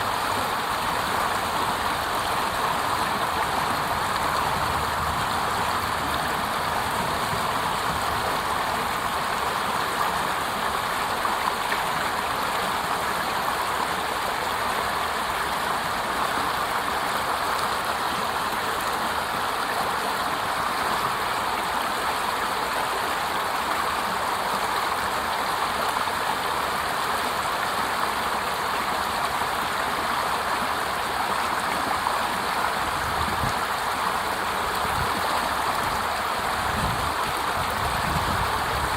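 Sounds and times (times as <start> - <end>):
water splashing over cascade: 0.0 - 38.9.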